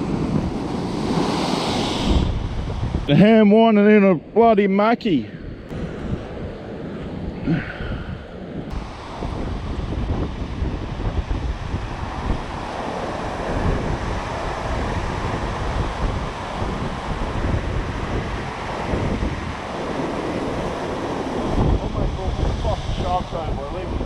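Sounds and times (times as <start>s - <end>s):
wind buffeting microphone: 0.0s - 4.5s, 5.1s - 24.0s.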